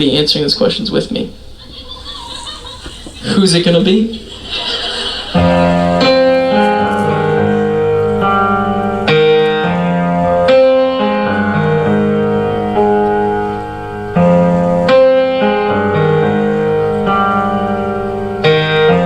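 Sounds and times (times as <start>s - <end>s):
slow piano chords: 2.6s - 19.0s.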